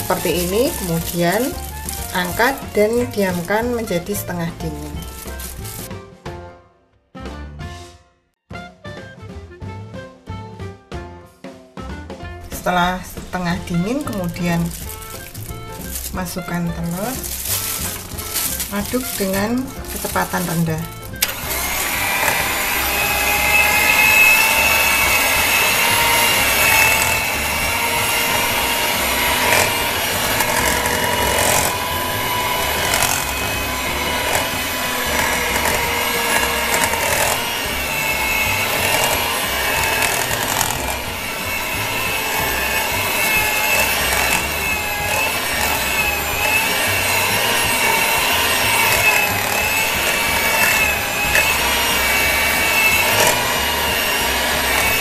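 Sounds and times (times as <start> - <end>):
beaters scraping metal bowl: 0.0 - 5.9, 12.4 - 55.0
hand mixer motor whine: 0.0 - 5.9, 12.5 - 55.0
beaters churning thick dough: 0.0 - 6.0, 12.4 - 55.0.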